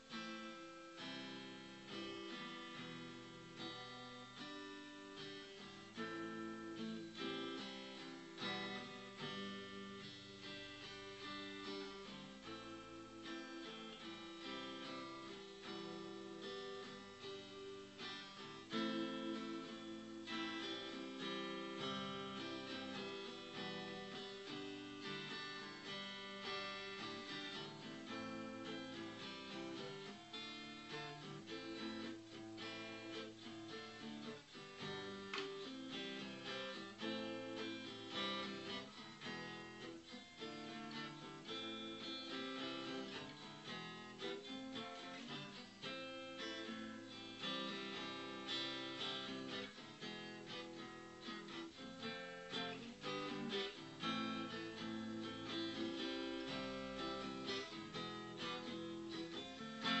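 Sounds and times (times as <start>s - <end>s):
acoustic guitar chords: 0.0s - 60.0s.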